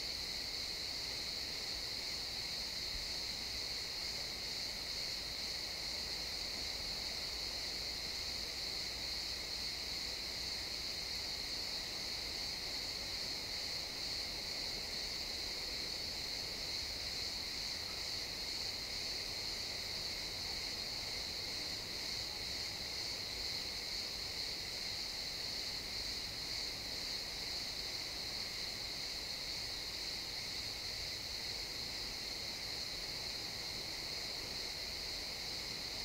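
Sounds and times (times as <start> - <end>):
crickets chirping: 0.0 - 36.0
faint background hiss: 0.0 - 36.0.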